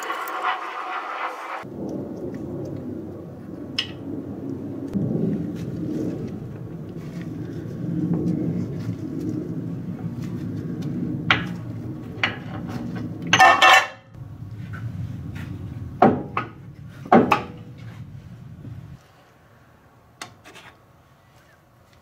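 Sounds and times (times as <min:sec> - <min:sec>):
steady low rumble: 0:01.6 - 0:13.4, 0:14.0 - 0:20.1.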